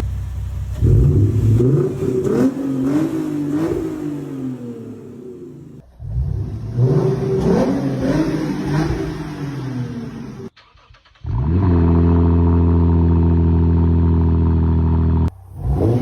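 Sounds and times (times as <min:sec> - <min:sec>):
car exhaust revving: 0:00.0 - 0:10.5, 0:11.2 - 0:16.0.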